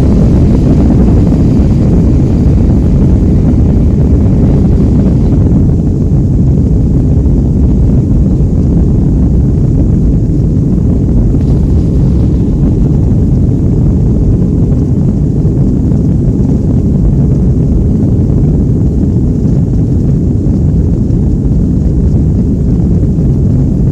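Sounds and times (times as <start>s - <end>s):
jet engines and airflow rumbling: 0.0s - 23.9s.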